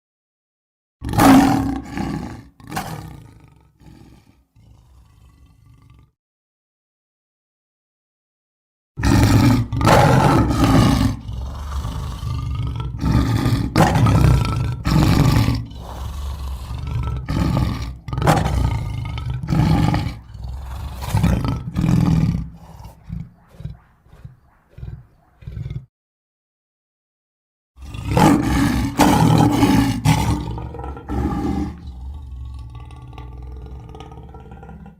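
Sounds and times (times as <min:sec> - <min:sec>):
creature roars: 0:01.0 - 0:06.2, 0:09.0 - 0:25.9, 0:27.8 - 0:34.9.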